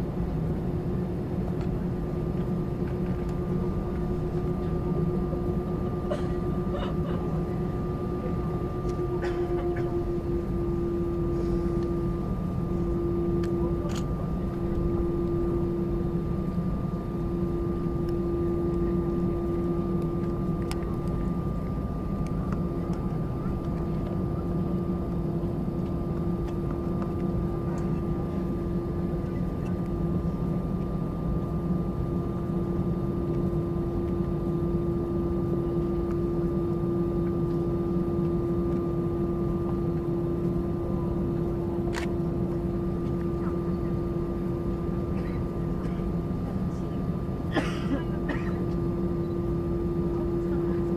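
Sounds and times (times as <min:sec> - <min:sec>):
airliner engines humming: 0:00.0 - 0:50.9.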